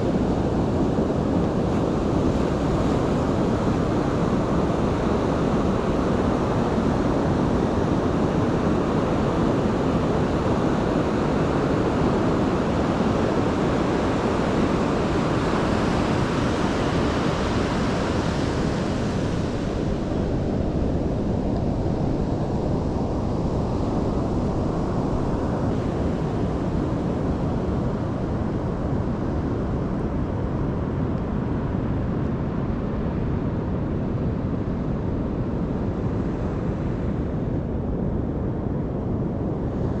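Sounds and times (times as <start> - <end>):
ocean surf: 0.0 - 32.7
wind noise on microphone: 0.0 - 40.0.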